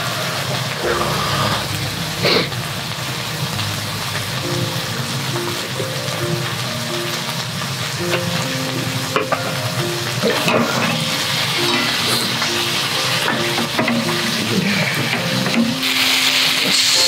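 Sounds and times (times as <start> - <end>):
food sizzling in a skillet: 0.0 - 17.0
soft background music: 0.0 - 17.0.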